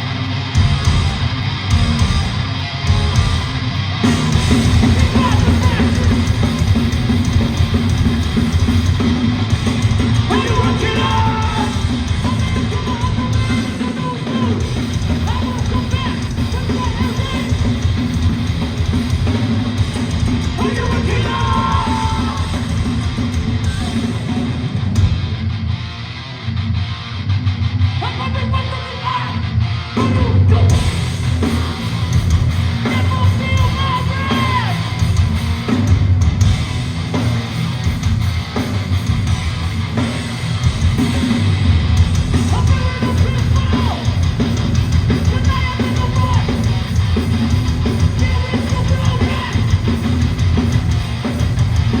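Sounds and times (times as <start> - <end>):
yelled vocals: 0.0 - 24.4, 28.0 - 35.9, 38.5 - 52.0
live hardcore band playing: 0.0 - 52.0.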